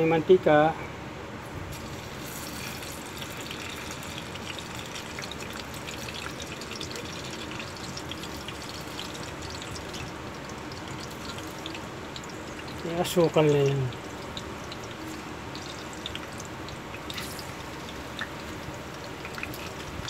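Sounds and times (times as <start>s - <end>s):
food frying in hot oil: 1.6s - 20.0s.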